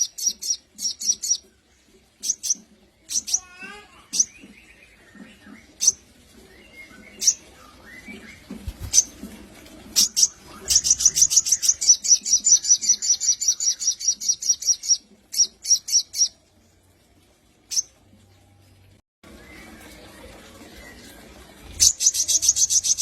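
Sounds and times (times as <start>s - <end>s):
bird chirping and trilling: 0.0s - 1.5s, 2.2s - 9.2s, 9.9s - 16.4s, 17.7s - 18.0s, 19.3s - 23.0s.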